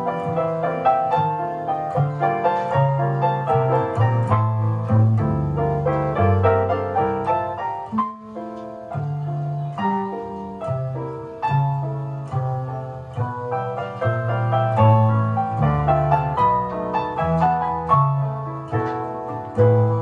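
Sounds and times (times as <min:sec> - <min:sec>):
piano music over loudspeakers: 0:00.0 - 0:20.0.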